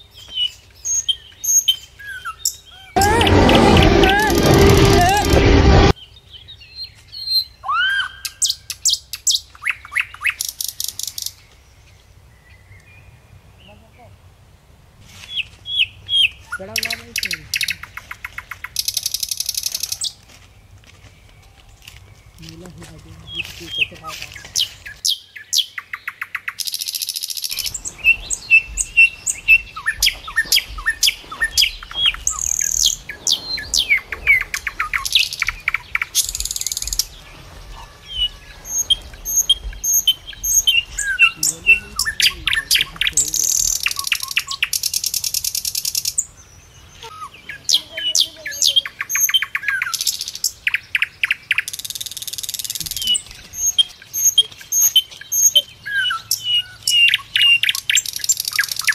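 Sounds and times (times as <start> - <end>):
many birds chirping and singing: 0.0 - 10.5, 15.2 - 58.9.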